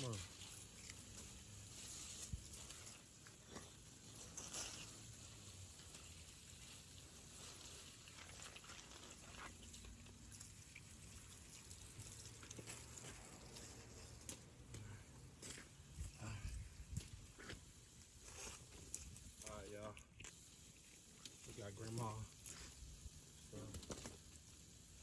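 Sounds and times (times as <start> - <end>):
water spraying from a hose: 0.0 - 25.0.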